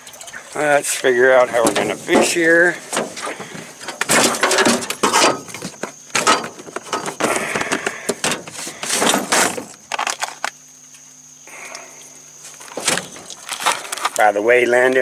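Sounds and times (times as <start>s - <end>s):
fishing gear clattering and rustling: 0.0s - 11.0s, 12.3s - 15.0s
faint steady low hum: 0.0s - 15.0s.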